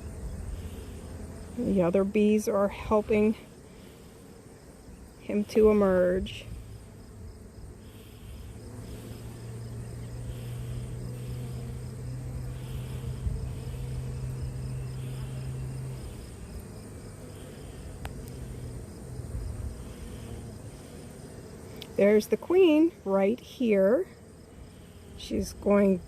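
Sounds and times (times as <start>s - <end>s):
honeybee colony humming: 0.0s - 26.0s.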